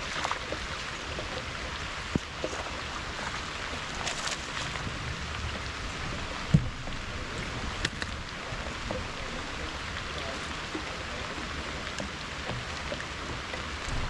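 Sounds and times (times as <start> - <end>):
light rain on water: 0.0 - 14.0.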